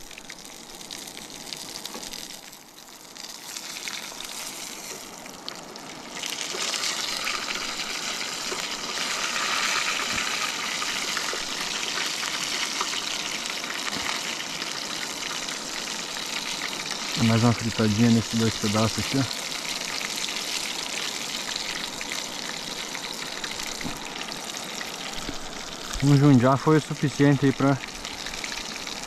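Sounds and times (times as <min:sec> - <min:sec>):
fish frying in hot oil: 0:00.0 - 0:29.0.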